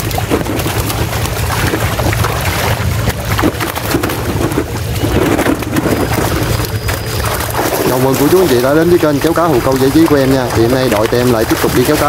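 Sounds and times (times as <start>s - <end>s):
fish thrashing and splashing: 0.0s - 12.0s
steady low hum: 0.0s - 12.0s.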